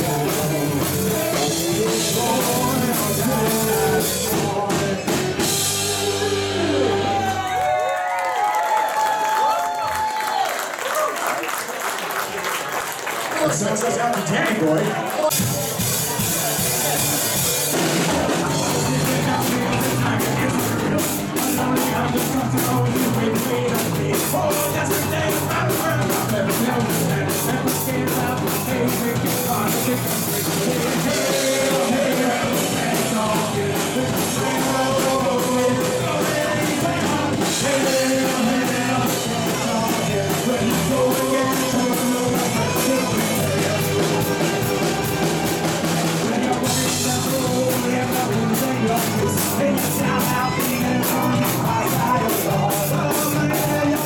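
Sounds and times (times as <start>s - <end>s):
man singing into a microphone: 0.0s - 7.4s, 18.0s - 54.0s
drum kit beat: 0.0s - 7.6s, 15.2s - 54.0s
electric guitar: 0.0s - 8.0s, 15.3s - 54.0s.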